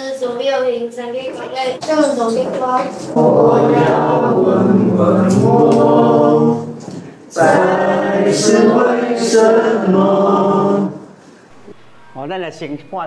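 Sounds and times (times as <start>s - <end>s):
voices singing slow melody: 1.7s - 12.3s.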